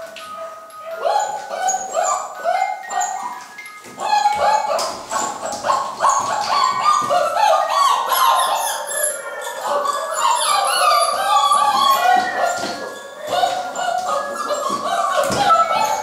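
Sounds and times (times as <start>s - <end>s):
puppies yapping and whining: 0.0s - 16.0s.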